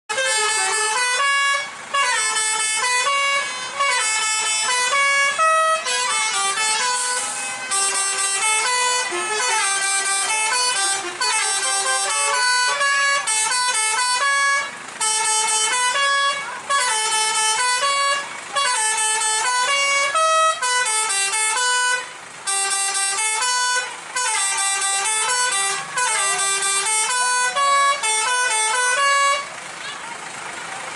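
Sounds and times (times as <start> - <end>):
multi-tone bus horn melody: 0.1 - 30.9.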